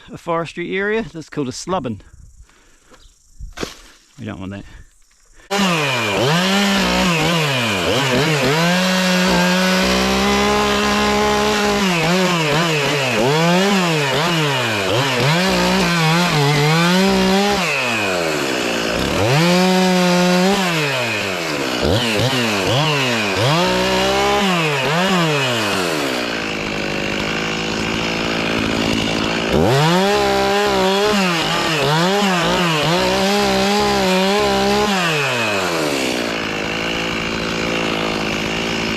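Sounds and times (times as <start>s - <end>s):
chainsaw cutting wood: 3.6s - 4.0s, 5.4s - 38.9s.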